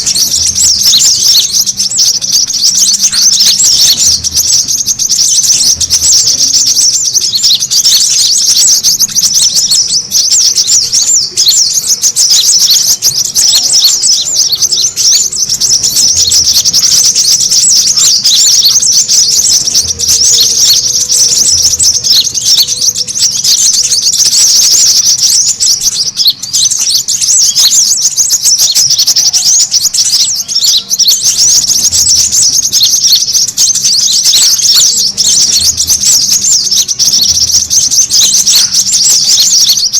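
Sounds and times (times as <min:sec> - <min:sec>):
birds chattering in rapid chirps: 0:00.0 - 0:39.9.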